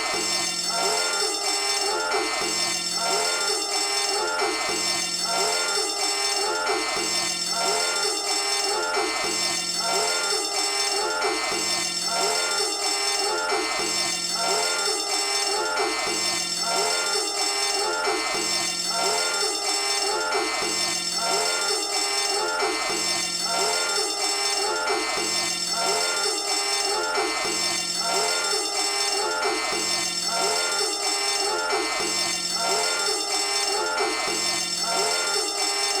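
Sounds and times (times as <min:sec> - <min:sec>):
electronic alarm gliding tones: 0:00.1 - 0:36.0.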